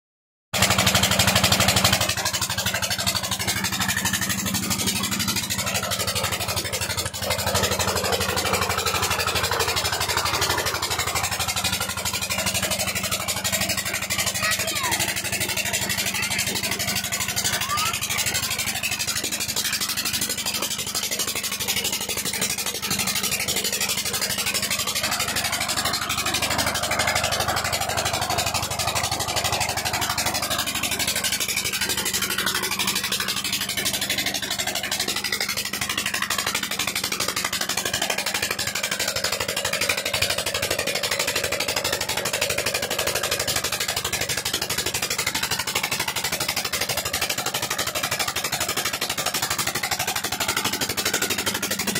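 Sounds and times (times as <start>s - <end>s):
diesel engine running: 0.5s - 51.9s.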